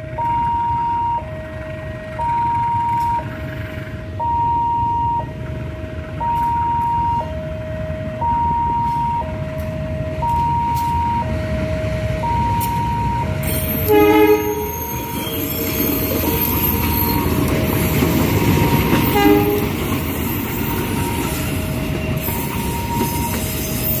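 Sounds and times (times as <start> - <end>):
diesel locomotive rumble: 0.0 - 24.0
two-tone crossing alarm: 0.0 - 24.0.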